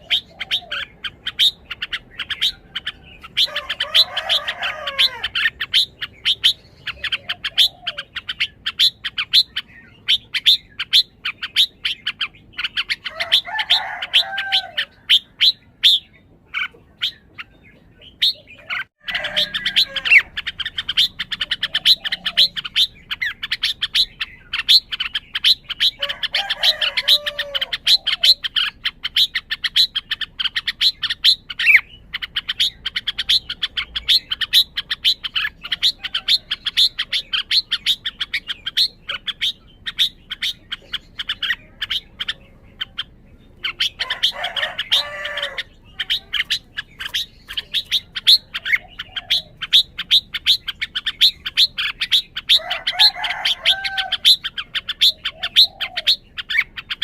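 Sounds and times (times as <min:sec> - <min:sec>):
low warbled bird phrases: 0:00.0 - 0:57.0.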